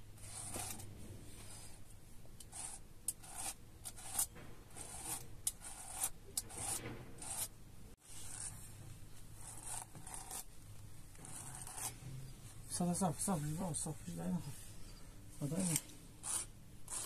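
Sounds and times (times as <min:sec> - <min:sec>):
rustling and scraping: 0:00.2 - 0:02.0, 0:04.0 - 0:16.0.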